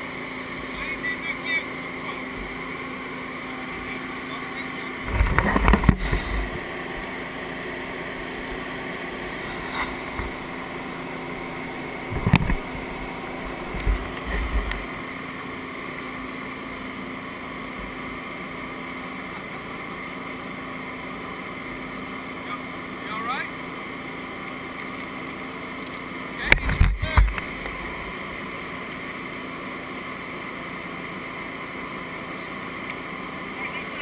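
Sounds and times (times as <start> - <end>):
engine humming: 0.0 - 34.0.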